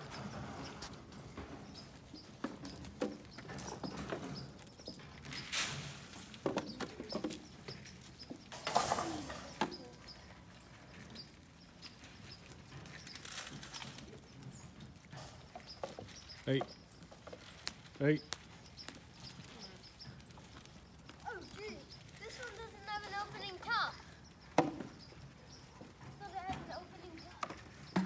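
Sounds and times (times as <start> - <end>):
hoof knocks and shuffling: 0.0 - 28.0.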